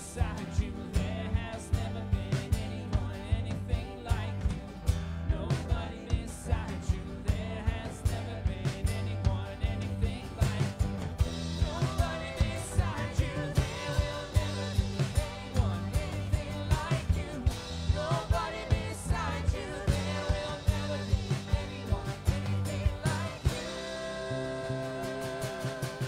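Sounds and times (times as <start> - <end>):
live band playing: 0.0 - 26.0
voices singing: 0.0 - 26.0.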